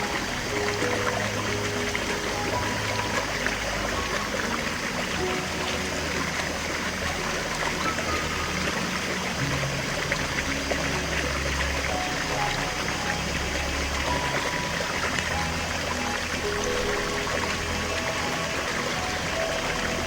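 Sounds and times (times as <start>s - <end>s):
soft ambient music: 0.0s - 20.0s
stream water trickling: 0.0s - 20.0s.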